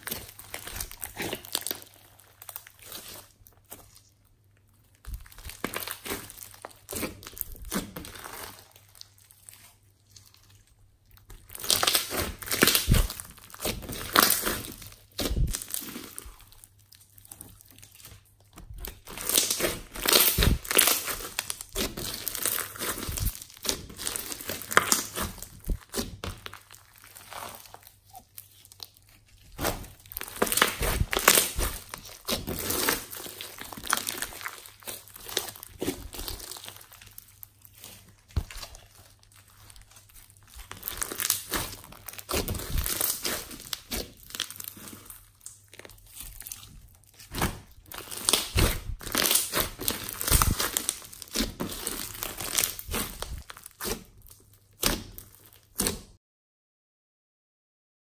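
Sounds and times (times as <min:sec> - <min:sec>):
slime with foam beads crackling: 0:00.0 - 0:56.2.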